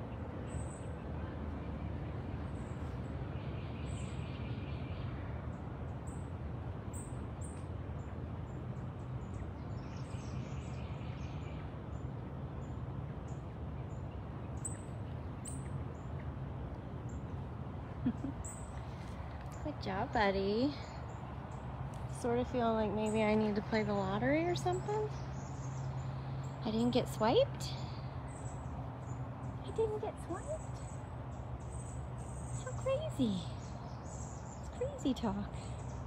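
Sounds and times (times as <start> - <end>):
birds chirping: 0.0 - 36.0
low background noise: 0.0 - 36.0.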